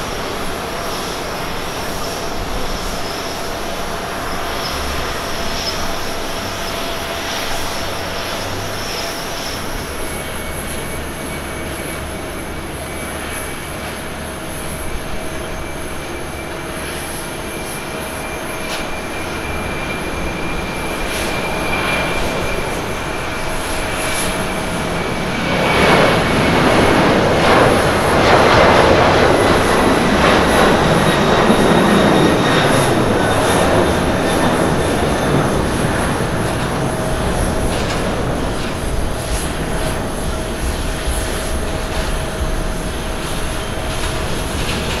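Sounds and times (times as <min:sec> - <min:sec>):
faint falling whine: 0:00.0 - 0:45.0
jet airliner taking off: 0:00.0 - 0:45.0.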